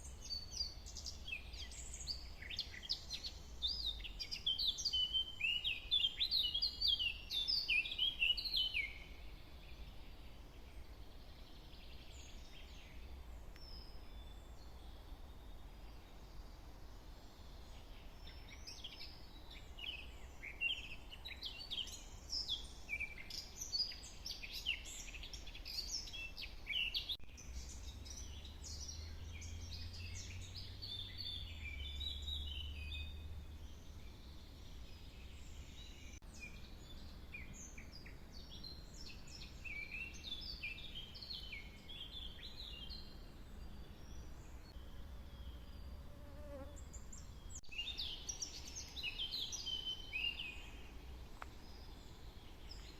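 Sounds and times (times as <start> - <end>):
small birds chirping and twittering: 0.0 - 52.9.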